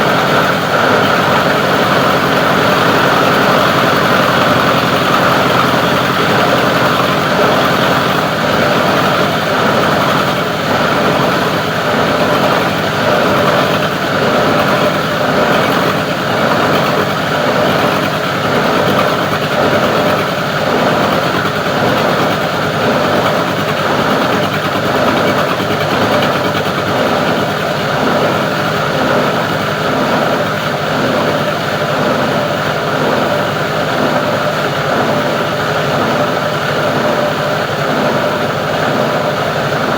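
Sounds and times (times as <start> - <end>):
grinder machine drone: 0.0 - 39.9.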